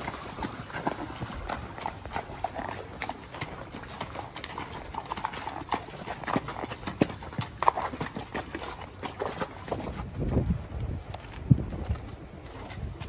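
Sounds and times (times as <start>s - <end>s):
horse hooves on rocky creek bed: 0.0s - 13.0s.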